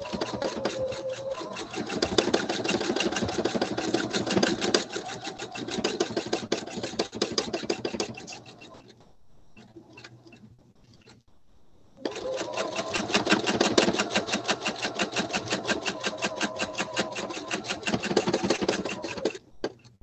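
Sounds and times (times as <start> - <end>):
sewing machine stitching: 0.0 - 9.0, 12.0 - 20.0.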